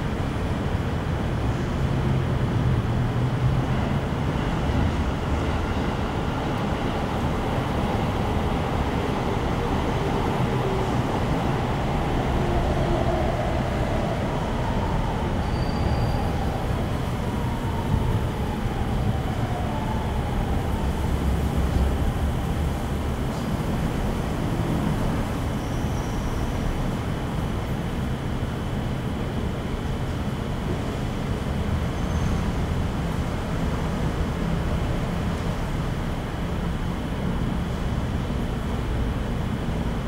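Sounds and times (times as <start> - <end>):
distant traffic rumble: 0.0 - 40.0
passing vehicles: 0.0 - 40.0.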